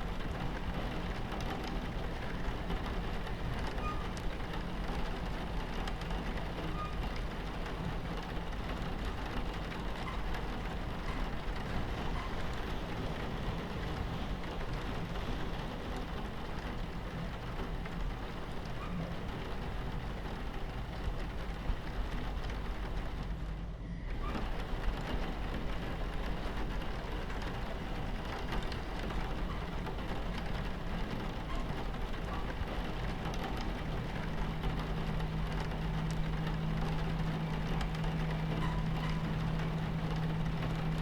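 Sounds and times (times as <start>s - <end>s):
rain pattering on window: 0.0s - 41.0s
train rumbling on tracks: 0.0s - 41.0s.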